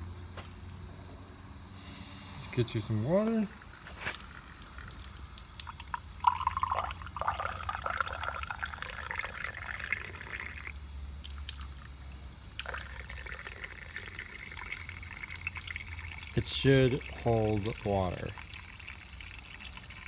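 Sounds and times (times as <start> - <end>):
water dripping and trickling: 0.4 - 20.0
water pouring into valve: 1.7 - 20.0.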